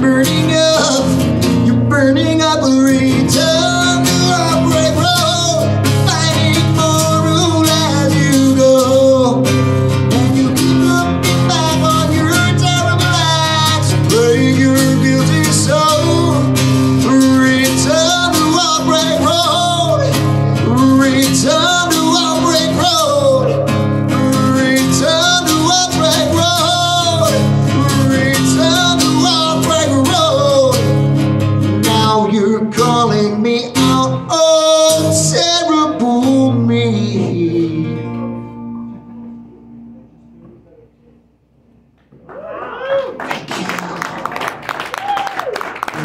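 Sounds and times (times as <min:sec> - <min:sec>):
man singing: 0:00.0 - 0:38.4
strummed acoustic guitar: 0:00.0 - 0:40.8.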